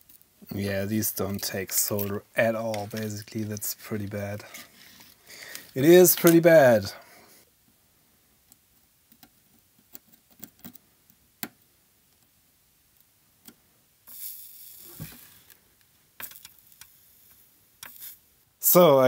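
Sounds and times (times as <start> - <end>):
soft hiss: 0.0 - 19.0.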